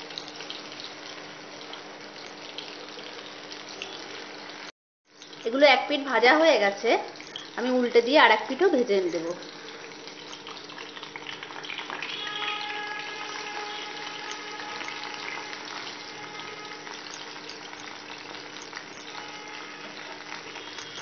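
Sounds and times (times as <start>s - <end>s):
fish deep-frying in oil: 0.0s - 21.0s.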